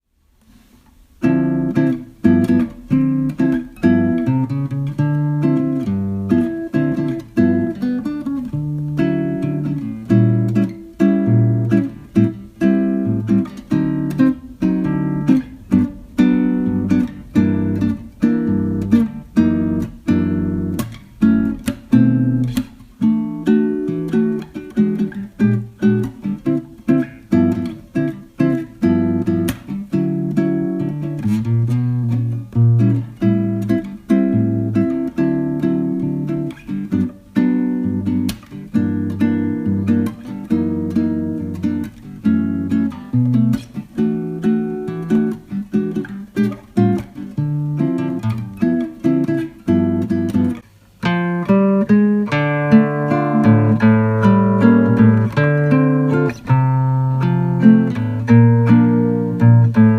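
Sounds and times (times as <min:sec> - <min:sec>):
acoustic guitar music: 0:00.4 - 0:59.9.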